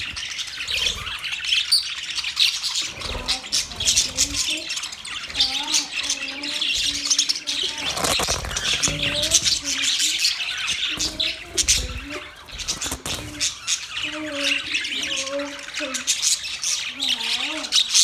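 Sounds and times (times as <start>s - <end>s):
budgerigars chattering: 0.0s - 18.0s.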